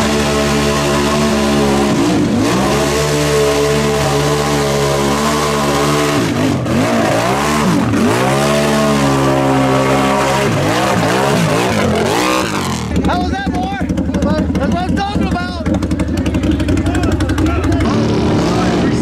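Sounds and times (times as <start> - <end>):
atv engine revving: 0.0 - 19.0
tires churning through mud: 0.0 - 19.0.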